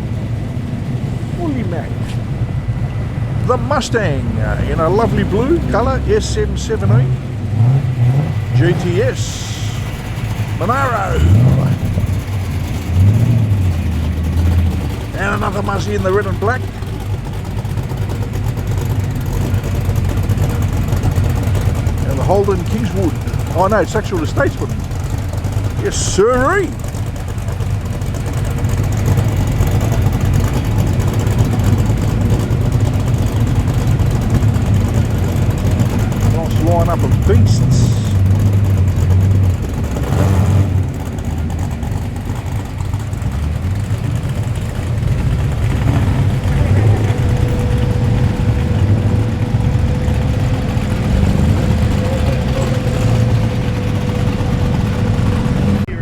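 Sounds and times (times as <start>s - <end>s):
car engine running low: 0.0s - 56.0s.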